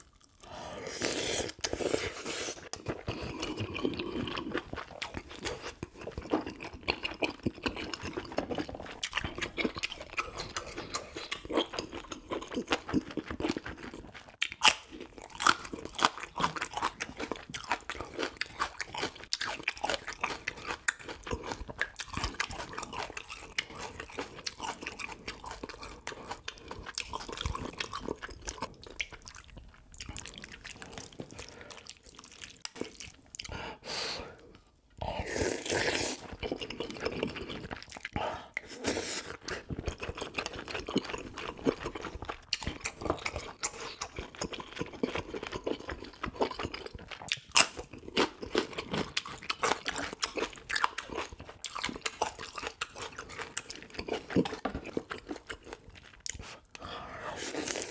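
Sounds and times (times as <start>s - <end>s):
crunchy chewing: 0.0s - 33.5s, 38.8s - 57.9s
wet chewing: 1.0s - 33.6s, 35.4s - 57.9s.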